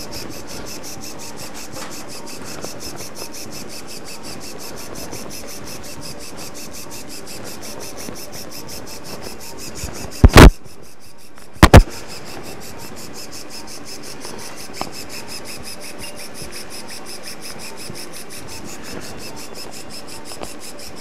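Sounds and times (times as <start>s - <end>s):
surgical shaver pulsing: 0.0s - 21.0s.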